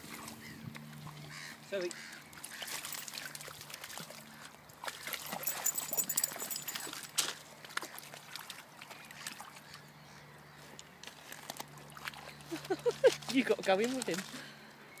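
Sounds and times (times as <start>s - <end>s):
dog splashing through water: 0.0s - 9.9s, 10.8s - 14.4s.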